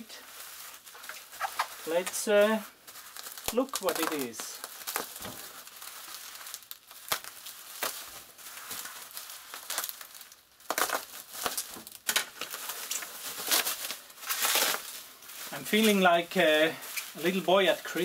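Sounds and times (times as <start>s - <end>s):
packing material crinkling: 0.0s - 18.0s.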